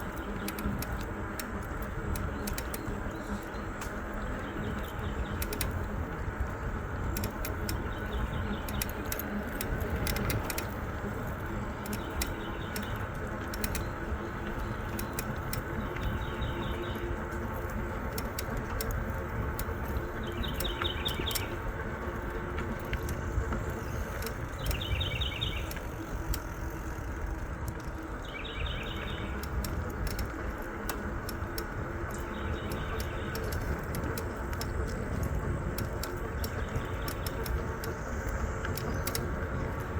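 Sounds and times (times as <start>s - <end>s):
light rattling clicks: 0.0s - 39.9s
tyre and wind rumble: 0.0s - 39.9s.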